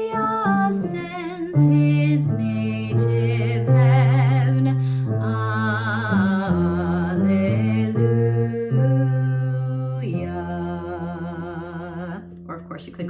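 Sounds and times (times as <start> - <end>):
person singing with vibrato: 0.0 - 12.3
keyboard playing low notes: 0.0 - 13.0.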